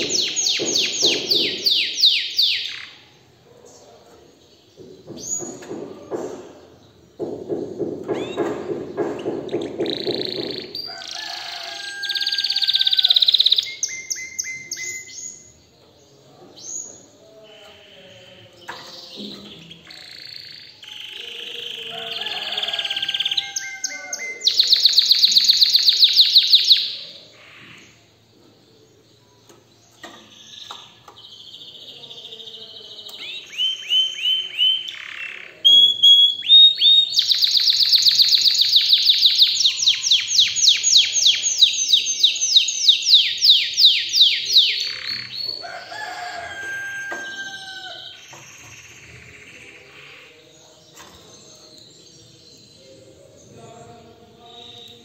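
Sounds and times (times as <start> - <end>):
canary singing trills: 0.0 - 6.1, 8.0 - 28.3, 29.0 - 55.0.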